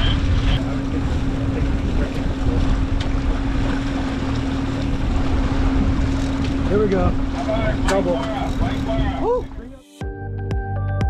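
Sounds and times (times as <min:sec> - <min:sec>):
wind buffeting microphone: 0:00.0 - 0:09.7
boat engine humming: 0:00.0 - 0:09.8
water rushing past hull: 0:00.0 - 0:09.8.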